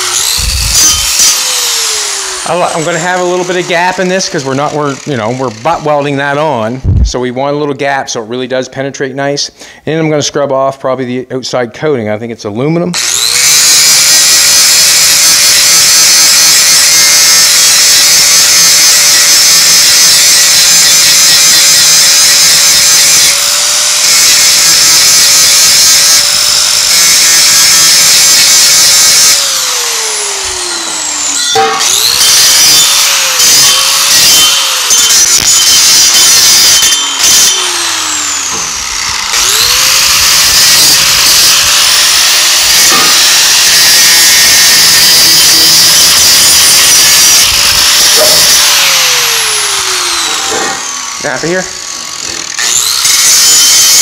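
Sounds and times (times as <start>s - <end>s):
angle grinder grinding pipe: 0.0s - 7.2s, 13.0s - 54.0s.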